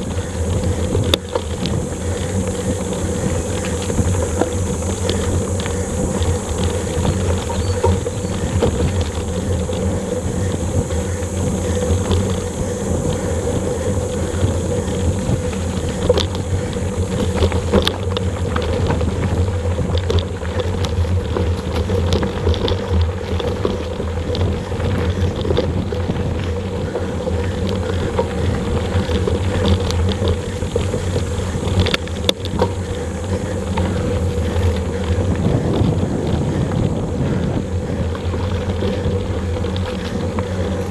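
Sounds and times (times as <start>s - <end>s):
bike clicks and rattles: 0.0s - 40.9s
wind and tyre rumble: 0.0s - 40.9s.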